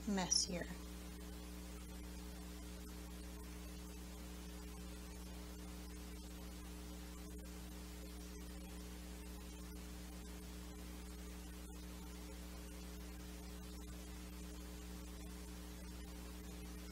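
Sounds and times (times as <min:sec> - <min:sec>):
electrical mains hum: 0:00.0 - 0:16.9.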